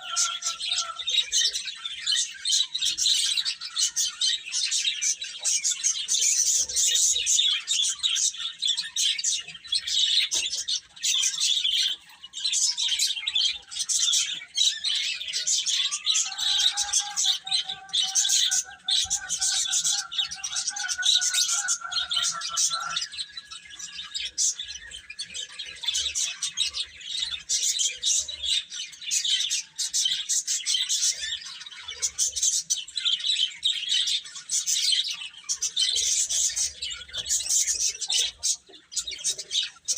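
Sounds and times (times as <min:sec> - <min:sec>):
baby chicks chirping: 0:00.0 - 0:39.9.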